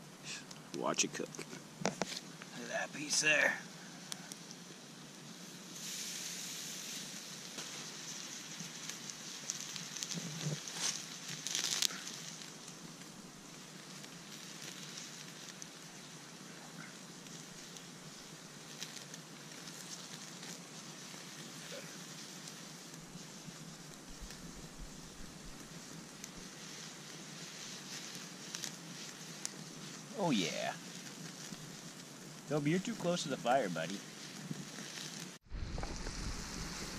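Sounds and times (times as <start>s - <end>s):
campfire crackling: 0.0s - 36.9s
food sizzling on a grill: 1.1s - 36.9s.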